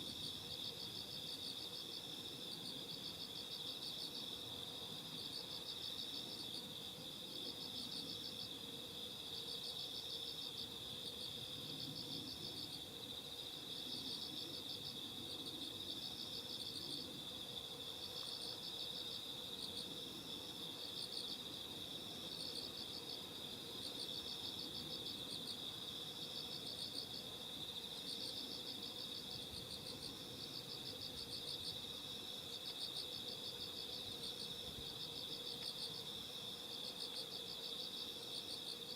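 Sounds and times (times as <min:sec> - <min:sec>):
insect continuous trill: 0:00.0 - 0:38.9.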